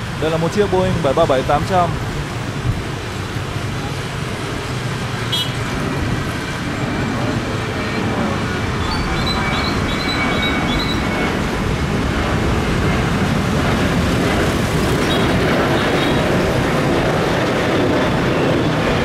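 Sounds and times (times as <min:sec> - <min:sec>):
jet engines at takeoff power: 0:00.0 - 0:19.0
road traffic noise: 0:00.0 - 0:19.0.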